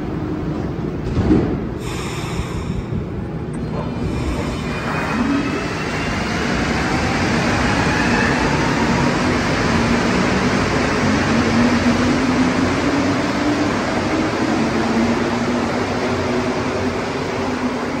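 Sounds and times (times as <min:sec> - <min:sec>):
subway train rumbling past: 0:00.0 - 0:18.0.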